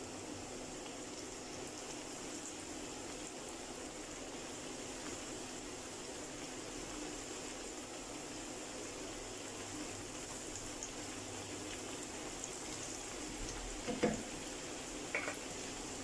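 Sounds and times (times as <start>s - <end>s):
eggplant sizzling in hot oil: 0.0s - 16.0s.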